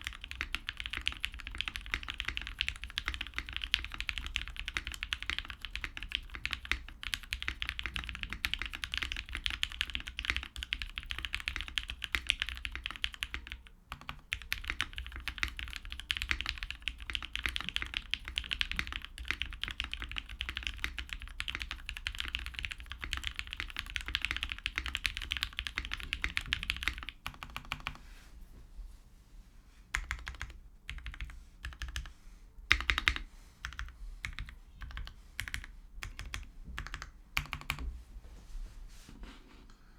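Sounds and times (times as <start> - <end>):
mechanical keyboard typing: 0.0 - 28.0, 30.0 - 32.1, 32.7 - 37.8.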